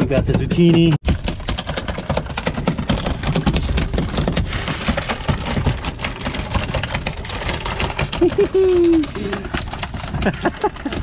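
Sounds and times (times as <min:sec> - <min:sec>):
knocks and clatters: 0:00.0 - 0:11.0.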